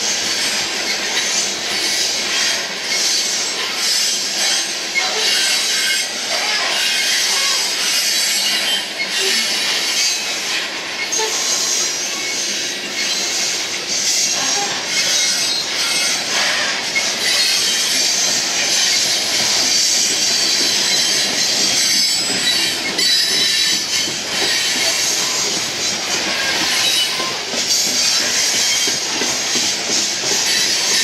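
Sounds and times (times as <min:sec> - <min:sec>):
train wheels grinding and squealing: 0:00.0 - 0:31.0
wheels clacking over rail joints: 0:00.9 - 0:31.0.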